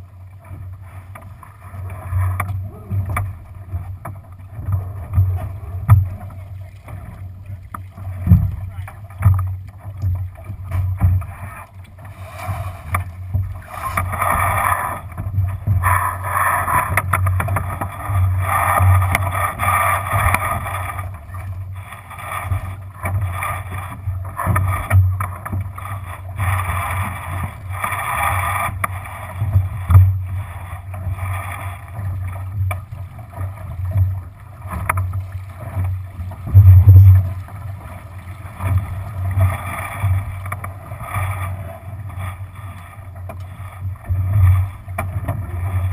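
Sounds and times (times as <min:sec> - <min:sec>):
water slapping along boat hull: 0:00.0 - 0:45.9.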